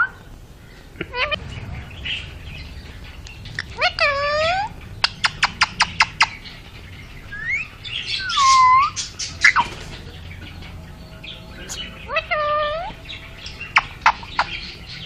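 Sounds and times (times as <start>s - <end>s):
parrot calling: 0.0s - 9.8s, 11.2s - 14.8s.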